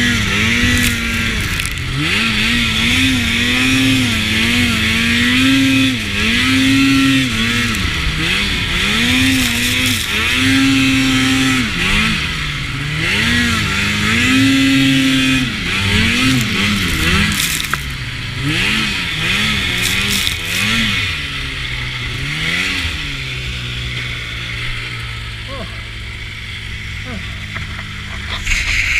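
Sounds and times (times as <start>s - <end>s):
snowmobile engine revving: 0.0s - 28.9s.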